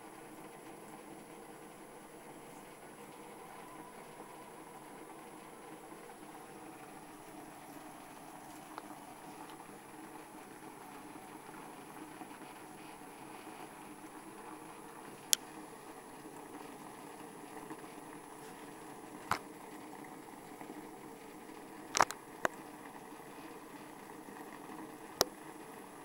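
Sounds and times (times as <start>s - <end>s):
water churning in washing machine: 0.0s - 26.0s.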